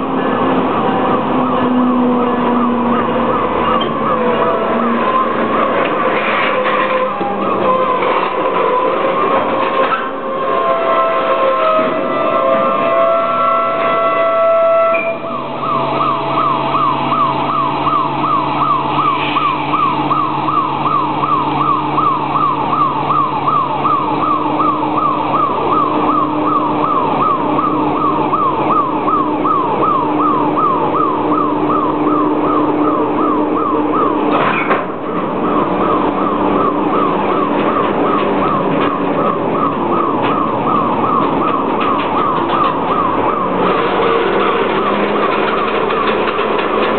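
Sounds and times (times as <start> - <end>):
locomotive engine running: 0.0 - 46.9
siren sweeping: 0.0 - 46.9.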